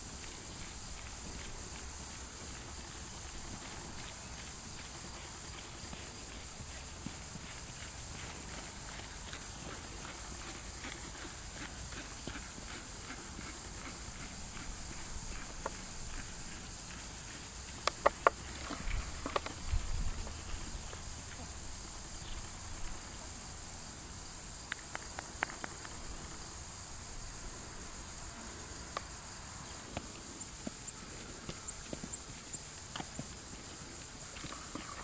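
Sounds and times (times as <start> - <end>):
horse hooves walking: 0.0 - 23.4, 27.6 - 35.0
high insect drone: 0.0 - 35.0.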